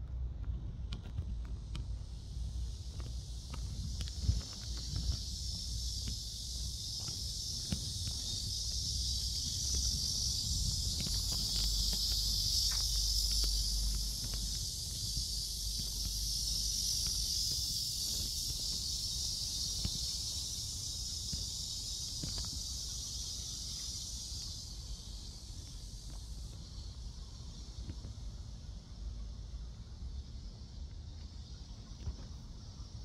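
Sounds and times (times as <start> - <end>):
cicadas buzzing: 0.6 - 33.0.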